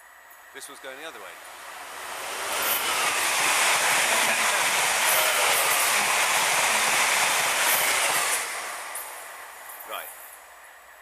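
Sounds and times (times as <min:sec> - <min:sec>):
passenger train passing: 0:00.0 - 0:11.0.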